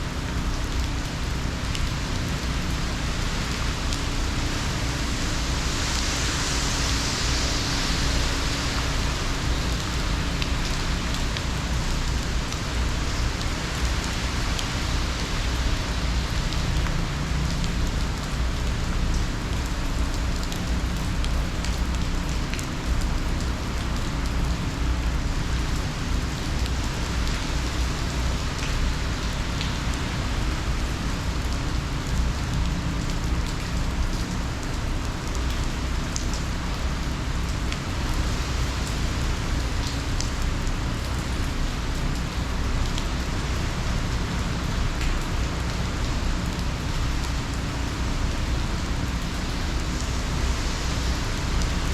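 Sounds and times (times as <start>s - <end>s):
constant low rumble: 0.0s - 51.9s
heavy rain falling: 0.0s - 51.9s.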